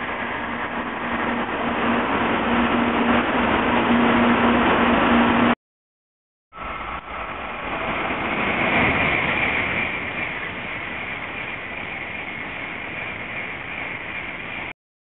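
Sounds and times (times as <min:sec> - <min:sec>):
high-speed train rushing past: 0:00.0 - 0:05.6, 0:06.5 - 0:14.7.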